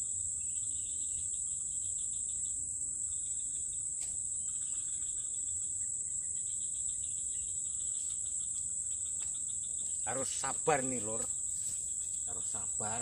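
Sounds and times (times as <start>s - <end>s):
high-pitched insect drone: 0.0s - 13.0s
low pulsing insect chirr: 0.0s - 13.0s.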